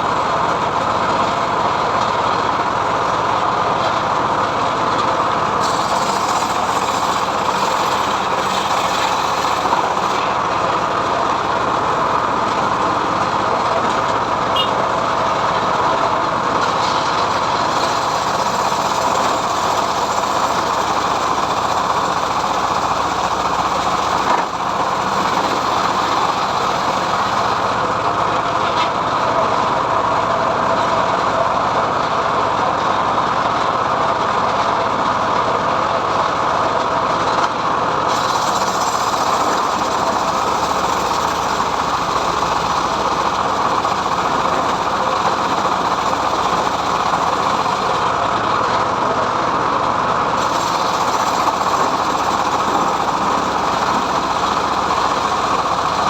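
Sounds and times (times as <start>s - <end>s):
engine-driven sawmill cutting log: 0.0s - 56.0s.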